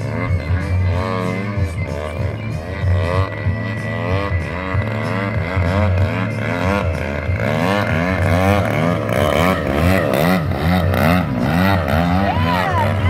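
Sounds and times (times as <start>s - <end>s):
model plane engine wavering pitch: 0.0s - 13.0s.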